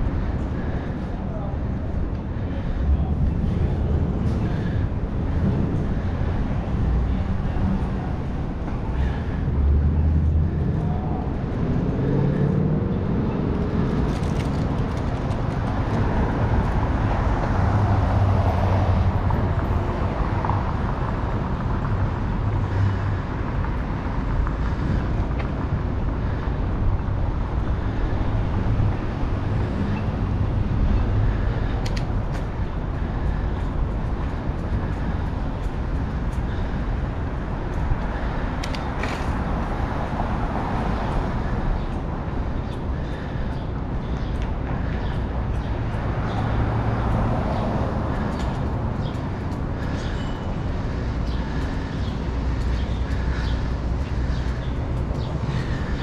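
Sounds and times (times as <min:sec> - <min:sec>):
city traffic noise: 0:00.0 - 0:56.0.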